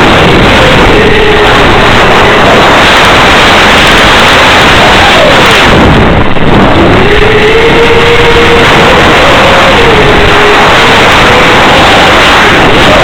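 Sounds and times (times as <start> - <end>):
drone motors whining: 0.0 - 13.0
wind noise: 0.0 - 13.0.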